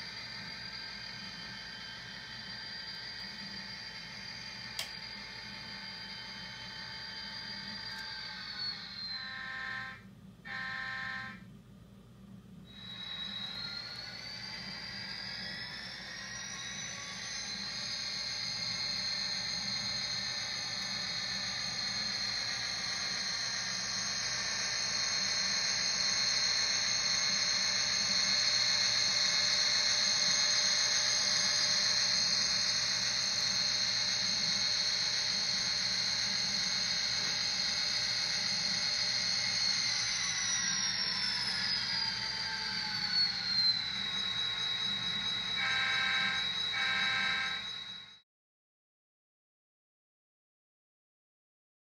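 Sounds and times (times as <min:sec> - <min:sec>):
model locomotive whine: 0:00.0 - 0:11.5, 0:12.6 - 0:48.2.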